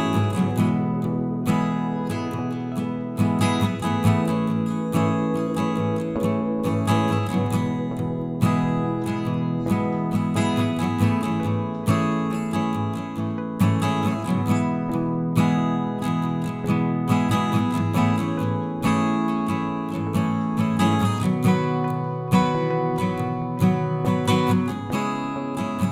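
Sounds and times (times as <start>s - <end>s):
acoustic guitar strumming: 0.0s - 25.9s.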